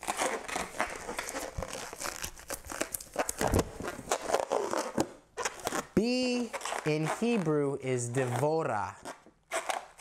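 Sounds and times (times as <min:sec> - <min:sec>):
balloons squeaking and rubbing: 0:00.0 - 0:10.0.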